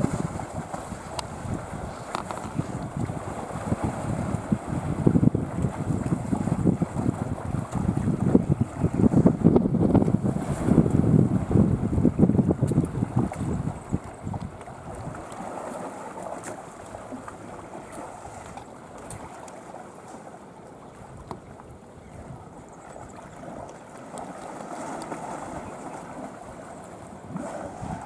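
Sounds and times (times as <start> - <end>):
wind on microphone: 0.0 - 15.8, 20.9 - 28.0
water lapping and sloshing: 0.0 - 28.0.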